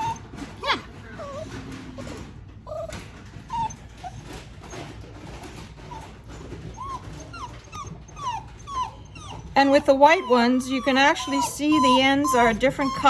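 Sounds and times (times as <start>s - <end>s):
puppy whimpering in high whines: 0.0s - 2.1s, 2.7s - 4.9s, 5.8s - 13.0s.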